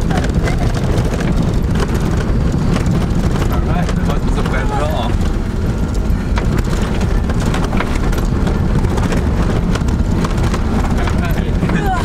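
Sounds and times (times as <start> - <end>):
clicks and rattles: 0.0 - 12.0
road and engine rumble: 0.0 - 12.0.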